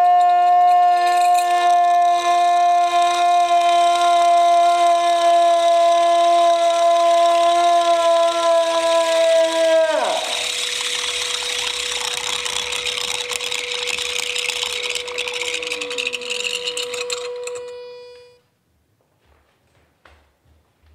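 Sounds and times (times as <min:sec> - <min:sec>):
small electric motor whirring: 0:00.8 - 0:18.4.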